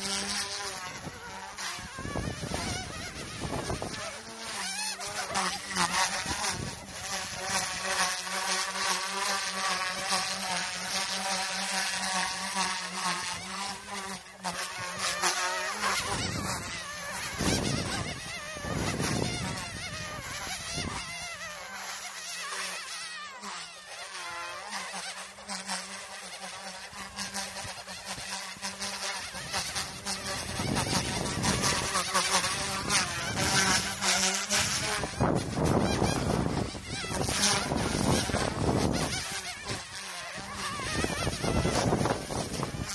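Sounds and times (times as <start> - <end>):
toy helicopter motor buzzing: 0.0 - 42.9.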